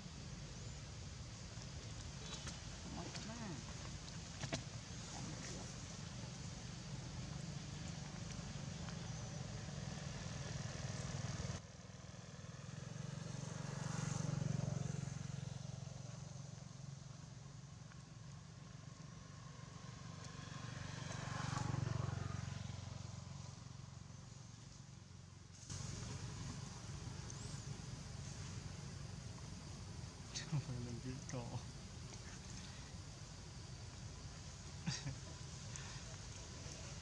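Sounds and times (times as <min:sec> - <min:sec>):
traffic engine hum: 0:00.0 - 0:37.0
vehicles passing: 0:00.0 - 0:37.0.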